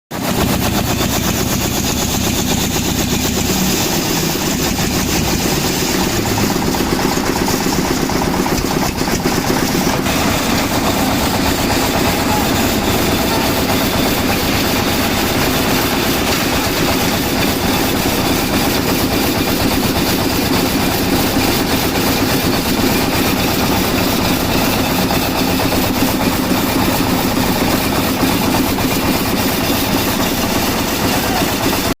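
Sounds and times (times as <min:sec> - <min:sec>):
construction machine engine running: 0:00.1 - 0:32.0.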